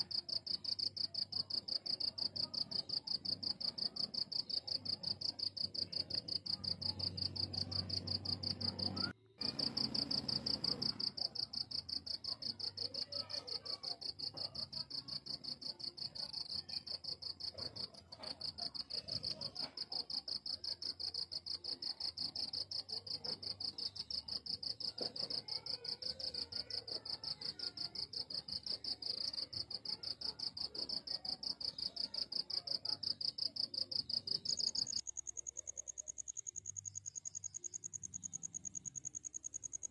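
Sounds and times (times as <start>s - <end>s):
cricket trilling: 0.1s - 19.5s, 20.2s - 39.9s.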